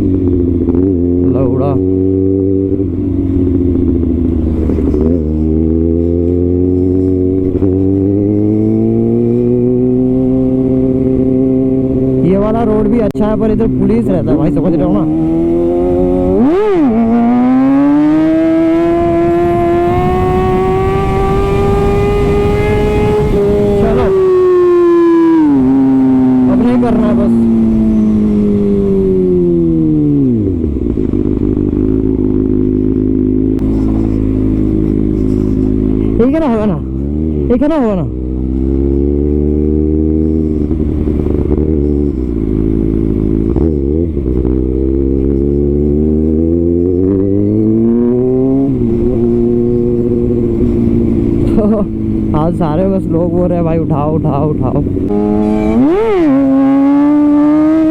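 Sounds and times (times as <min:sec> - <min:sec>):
low wind rumble: 0:00.0 - 0:57.9
motorcycle engine revving: 0:00.0 - 0:57.9.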